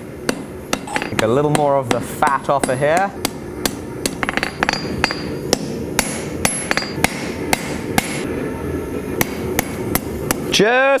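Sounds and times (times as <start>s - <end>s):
hammer striking metal on anvil: 0.2s - 8.3s, 9.2s - 10.5s.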